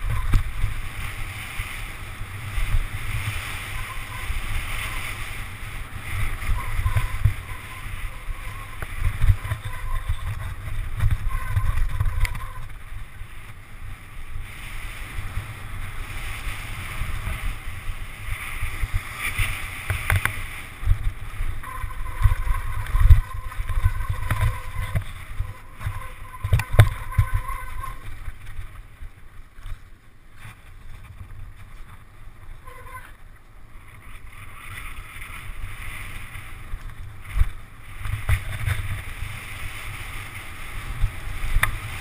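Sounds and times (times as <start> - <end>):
bike and tyres rattling on dirt: 0.0 - 42.0
wind buffeting microphone: 0.0 - 42.0.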